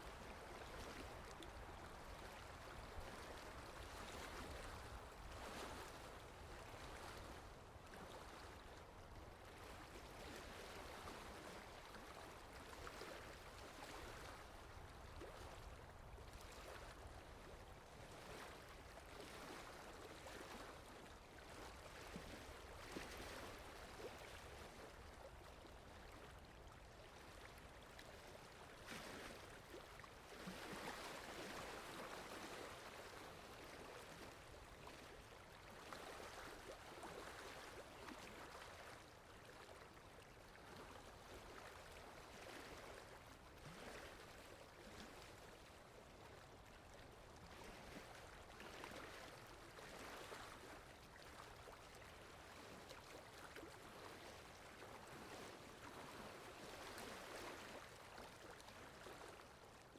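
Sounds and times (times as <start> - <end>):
faint water lapping: 0.0 - 59.9
wind: 0.0 - 59.9.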